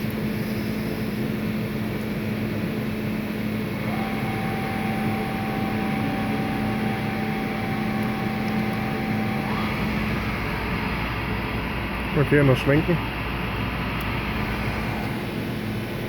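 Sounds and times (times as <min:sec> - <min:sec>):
lathe mechanical hum: 0:00.0 - 0:16.0
steady high whine: 0:00.0 - 0:16.0.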